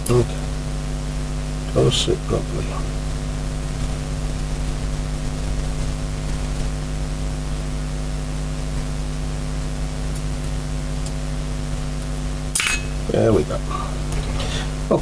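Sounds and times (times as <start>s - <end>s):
constant hiss: 0.0s - 15.0s
electrical hum: 0.0s - 15.0s.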